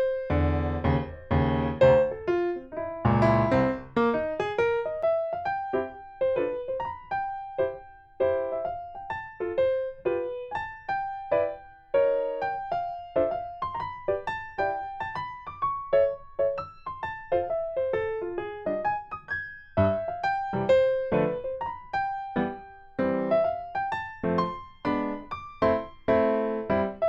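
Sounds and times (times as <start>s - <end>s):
light piano melody: 0.0s - 27.0s.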